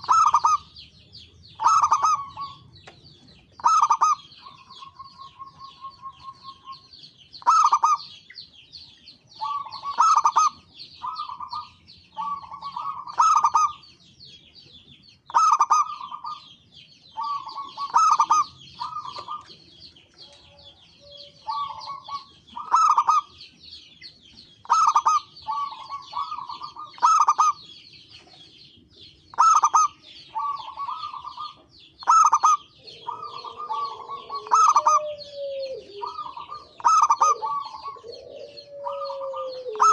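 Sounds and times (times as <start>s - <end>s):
dove cooing: 0.0s - 8.2s, 9.3s - 13.9s, 15.3s - 16.5s, 17.1s - 23.4s, 24.6s - 28.4s, 29.3s - 39.9s
high chirping: 0.0s - 39.9s.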